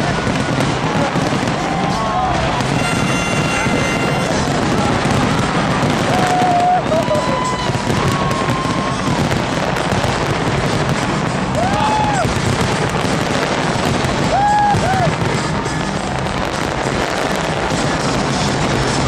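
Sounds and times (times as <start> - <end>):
fireworks crackling and banging: 0.0 - 19.0
whistling fireworks: 0.0 - 19.0.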